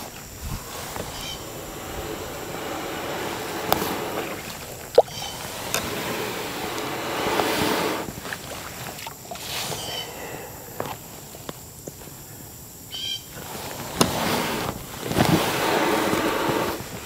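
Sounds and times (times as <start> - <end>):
water splashing around paddle: 0.0 - 10.0, 13.3 - 17.0.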